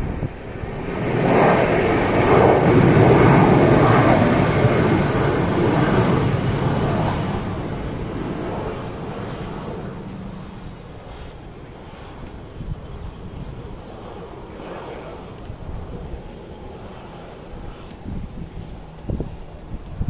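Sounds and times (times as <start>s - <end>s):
distant jet engines reverse thrust: 0.0s - 20.0s.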